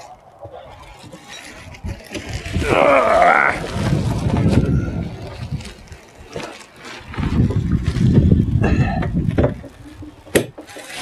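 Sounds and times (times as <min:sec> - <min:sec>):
cardboard scraping and rustling: 0:00.8 - 0:11.0.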